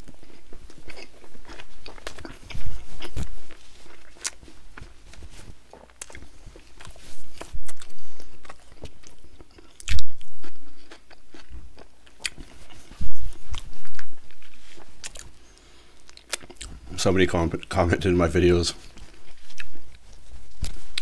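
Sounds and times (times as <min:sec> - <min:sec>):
person chewing food: 0:00.0 - 0:17.0, 0:18.8 - 0:21.0.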